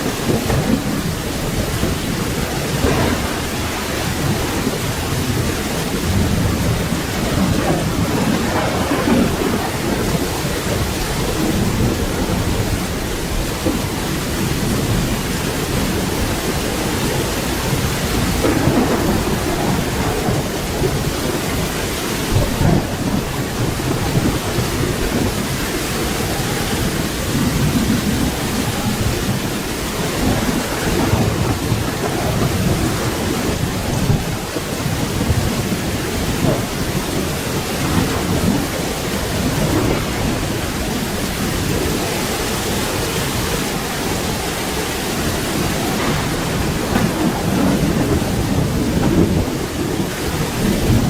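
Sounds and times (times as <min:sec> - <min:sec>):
rain falling: 0:00.0 - 0:51.0
rolling thunder: 0:00.0 - 0:51.0.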